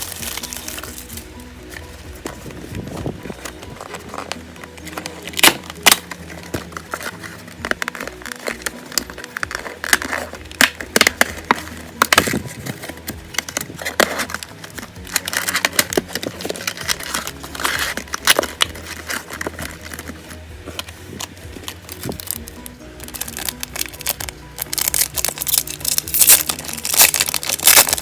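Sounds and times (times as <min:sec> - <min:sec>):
plastic wrapping crinkling and tearing: 0:00.0 - 0:28.0.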